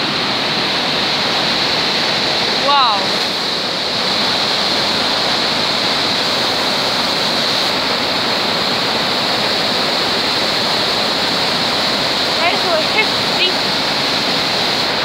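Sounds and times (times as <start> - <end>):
waterfall and rapids rushing: 0.0 - 15.0.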